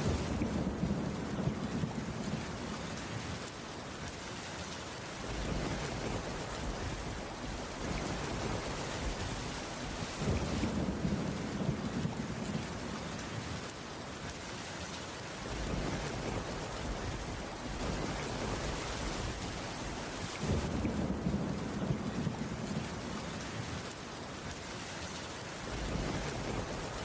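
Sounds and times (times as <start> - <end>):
rain on a wooden roof: 0.0 - 27.0.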